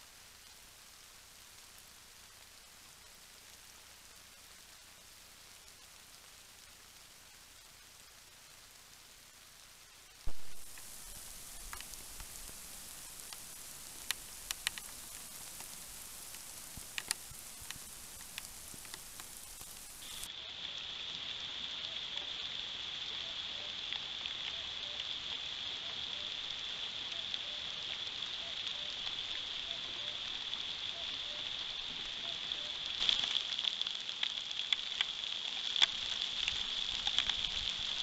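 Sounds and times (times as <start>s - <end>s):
raindrops ticking on camera: 0.0s - 20.8s, 21.6s - 38.0s
rain hiss: 0.0s - 38.0s.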